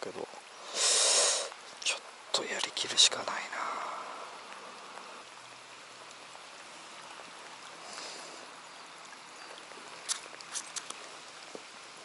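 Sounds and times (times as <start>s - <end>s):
rain on lake surface: 0.0s - 12.0s.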